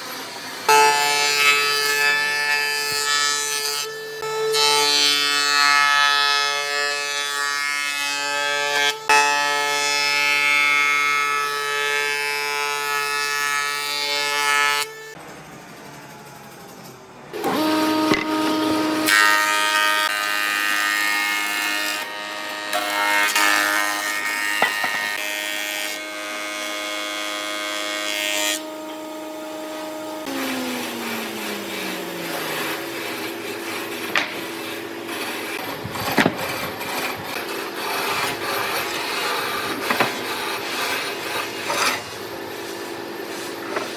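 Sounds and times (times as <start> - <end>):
power tools cutting wood: 0.0 - 43.9.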